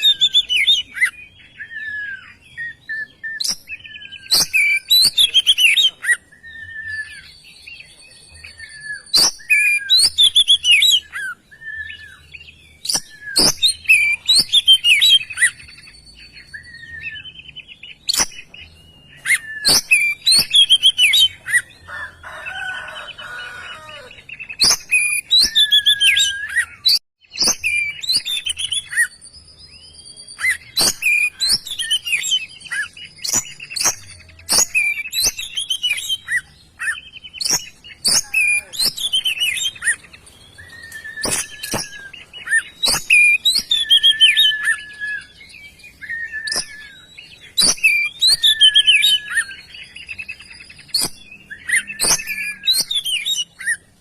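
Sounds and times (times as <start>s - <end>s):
bird singing slurred whistles: 0.0s - 21.8s, 24.4s - 53.9s.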